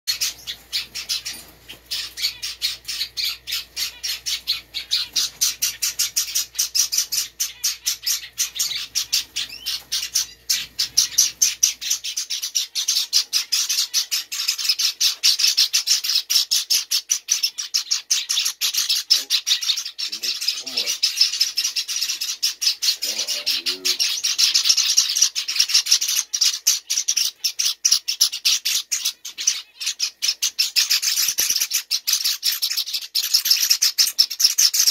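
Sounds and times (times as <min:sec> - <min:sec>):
finch chicks chirping: 0:00.1 - 0:34.9.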